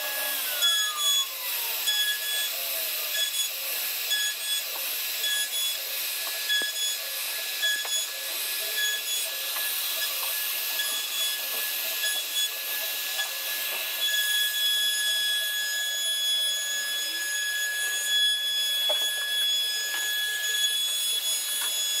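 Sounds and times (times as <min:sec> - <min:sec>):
hissing cutting noise: 0:00.0 - 0:22.0
router spindle whining: 0:00.0 - 0:22.0.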